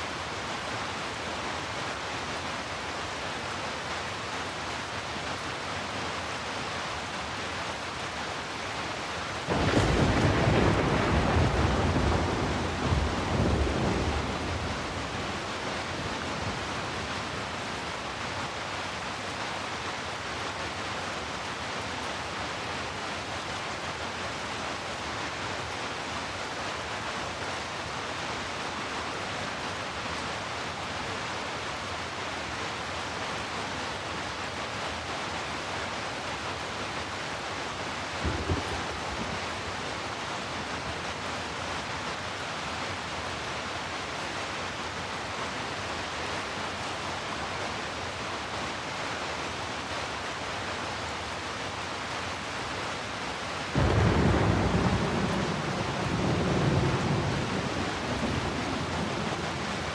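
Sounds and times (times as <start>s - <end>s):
heavy rain hissing: 0.0s - 23.3s, 28.6s - 59.9s.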